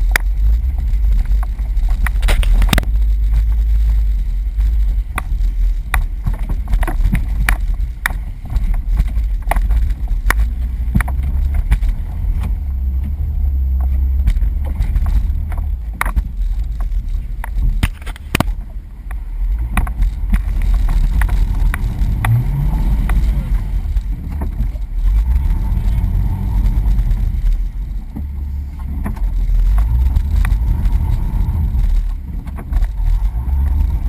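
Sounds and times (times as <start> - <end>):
engine and drivetrain rumble: 0.0 - 34.0.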